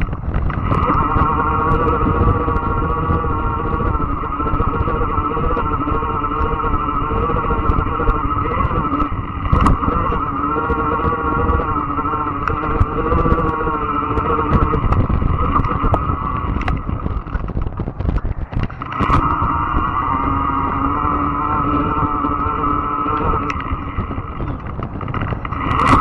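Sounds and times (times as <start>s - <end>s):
electric bike motor whine: 0.0s - 26.0s
wind rumble on microphone: 0.0s - 26.0s.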